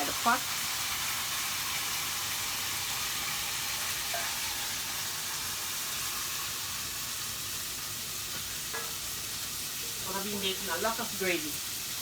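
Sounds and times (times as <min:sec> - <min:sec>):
seasonings sizzling in a pot: 0:00.0 - 0:12.0.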